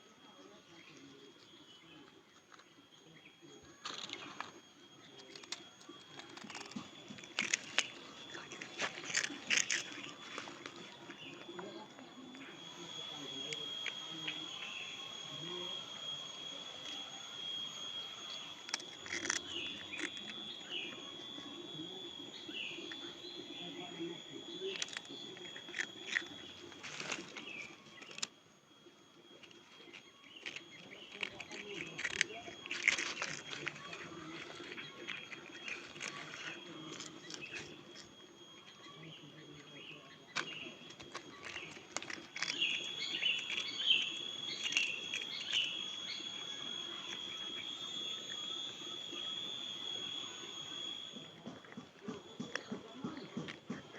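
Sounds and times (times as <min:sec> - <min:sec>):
cat crunching crackers: 0:03.6 - 0:15.2, 0:15.8 - 0:22.2, 0:24.4 - 0:49.8, 0:50.5 - 0:53.9
cat chewing: 0:03.8 - 0:15.2, 0:15.8 - 0:22.2, 0:24.4 - 0:39.7, 0:40.3 - 0:48.8, 0:50.5 - 0:53.9.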